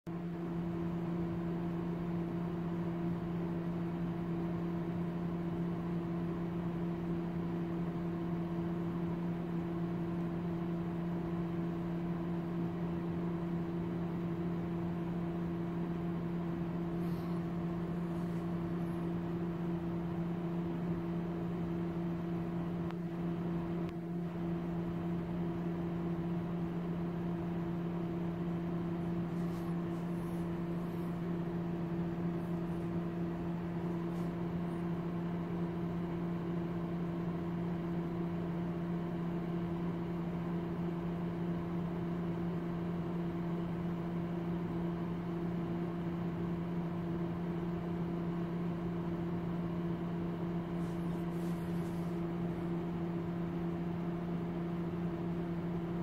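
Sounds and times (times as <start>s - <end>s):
steady electrical hum: 0.1s - 56.0s.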